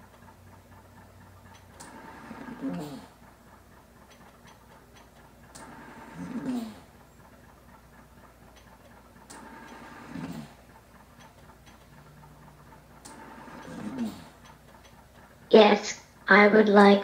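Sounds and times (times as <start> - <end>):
ventilator click: 0.0 - 15.5.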